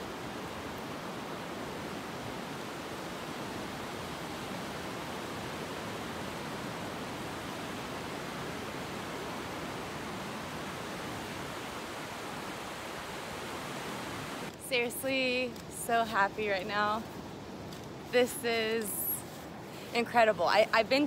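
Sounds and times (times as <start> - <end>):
ocean surf washing over sand: 0.0 - 21.0.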